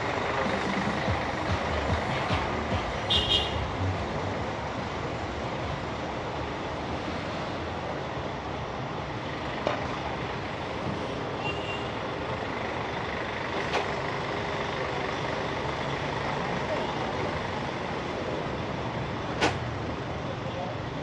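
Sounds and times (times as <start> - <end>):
buses idling: 0.0 - 21.0
traffic: 0.0 - 21.0.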